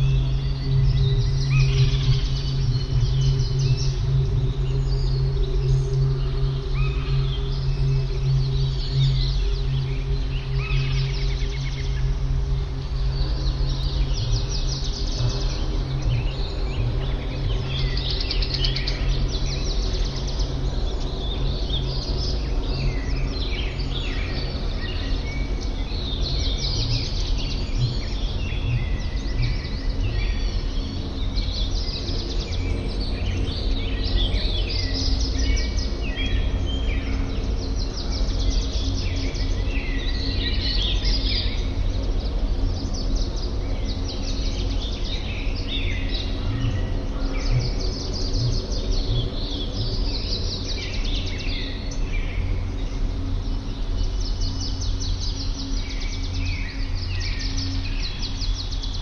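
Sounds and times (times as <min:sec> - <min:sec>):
birds chirping and trilling: 0:00.0 - 0:59.0
low rumble: 0:00.0 - 0:59.0
soft held background music: 0:00.0 - 0:59.0.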